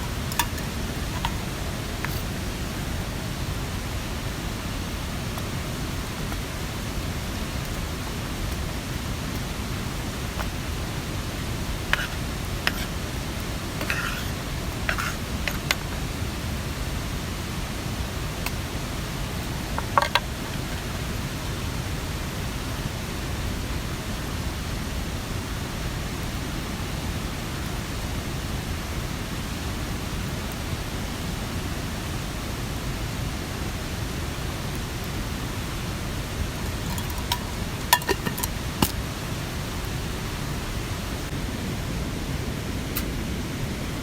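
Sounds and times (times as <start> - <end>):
mountain stream running: 0.0 - 44.0
rain: 0.0 - 44.0.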